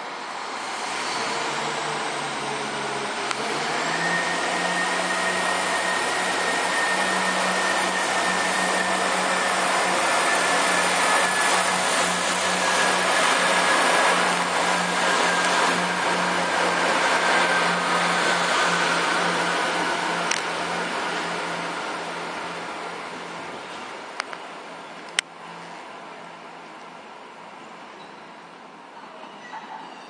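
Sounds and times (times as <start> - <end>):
diesel railcar engines pulling away: 0.0 - 30.0.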